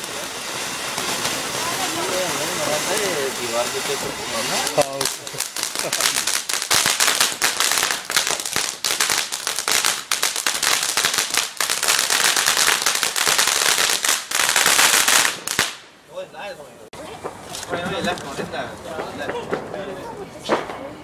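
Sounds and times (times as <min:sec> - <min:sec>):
firework crackling: 0:00.0 - 0:16.2, 0:17.0 - 0:21.0.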